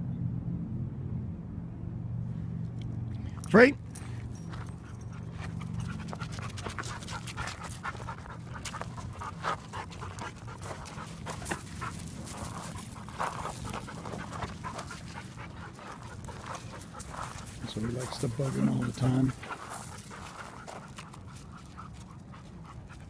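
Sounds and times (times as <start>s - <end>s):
dog panting: 4.0s - 23.0s.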